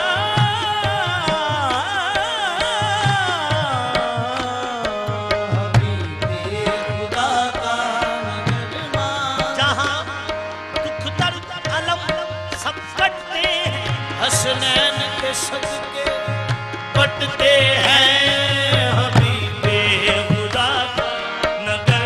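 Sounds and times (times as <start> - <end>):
harmonium drone: 0.0 - 22.0
man singing: 0.0 - 22.0
tabla strokes: 0.0 - 22.0.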